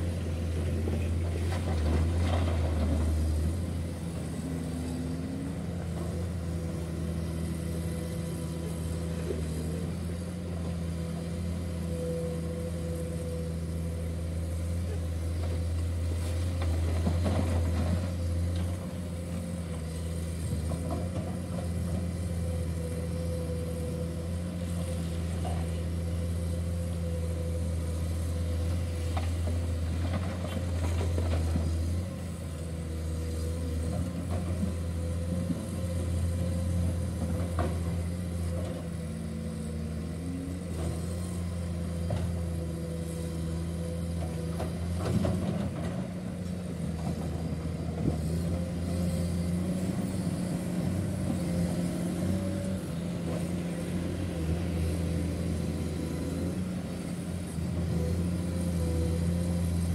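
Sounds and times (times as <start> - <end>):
excavator diesel engine running: 0.0 - 59.9
high engine whine: 0.0 - 59.9.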